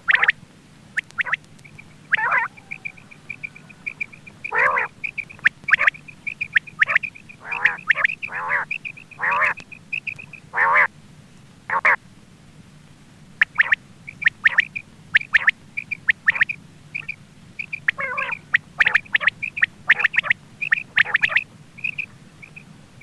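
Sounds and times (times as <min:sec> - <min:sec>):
quail calling: 0:00.0 - 0:10.9, 0:11.7 - 0:12.0, 0:13.4 - 0:22.7.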